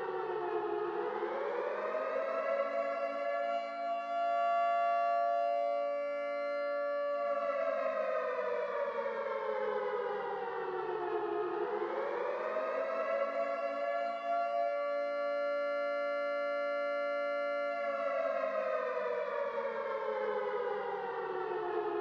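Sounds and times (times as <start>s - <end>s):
siren steady tone: 0.0s - 22.0s.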